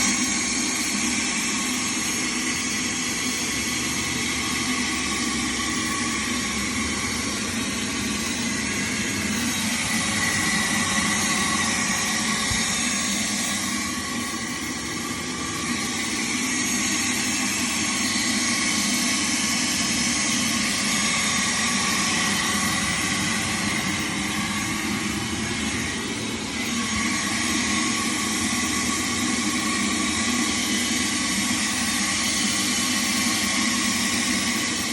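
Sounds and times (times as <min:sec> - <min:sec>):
shop vac running: 0:00.0 - 0:34.9.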